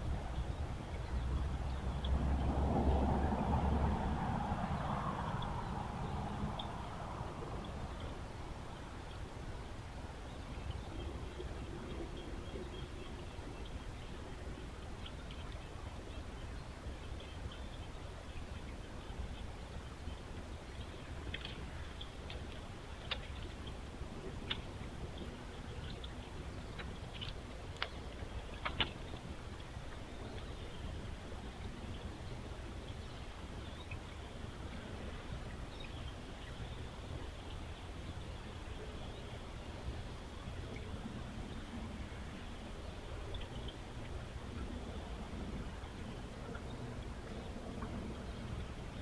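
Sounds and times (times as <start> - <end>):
outdoor background hiss: 0.0 - 49.0.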